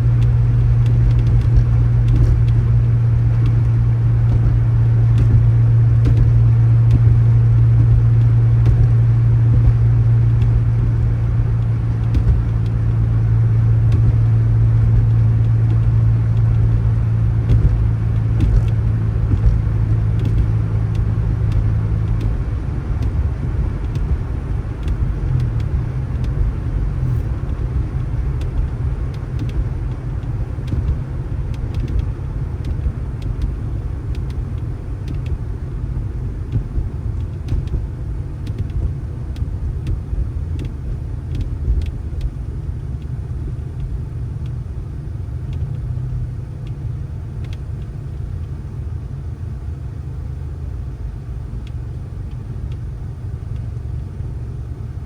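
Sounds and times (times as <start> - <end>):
road noise: 0.0 - 55.0
vehicle engine rumble: 0.0 - 55.0.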